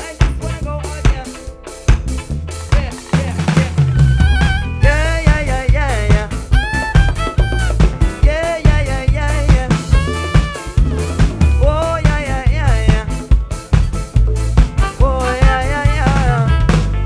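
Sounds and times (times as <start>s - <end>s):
bass: 0.0s - 17.0s
drum kit: 0.0s - 17.0s
sliding lead melody: 0.3s - 17.0s.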